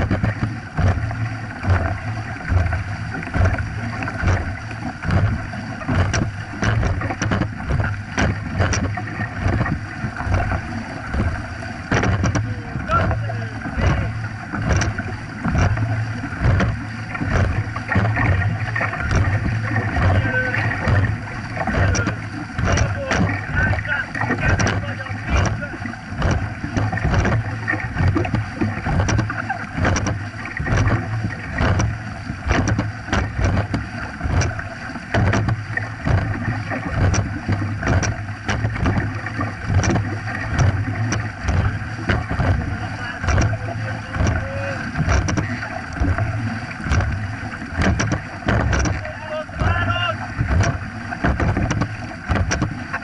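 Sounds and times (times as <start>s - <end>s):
paddles splashing: 0.0s - 53.0s
water rushing along hull: 0.0s - 53.0s.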